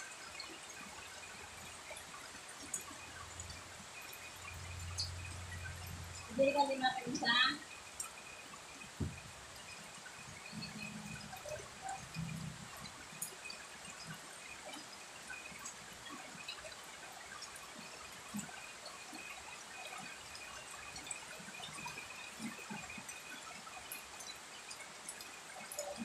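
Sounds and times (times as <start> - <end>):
drops ticking and splattering: 0.0 - 26.0
rain falling on plants: 0.0 - 26.0.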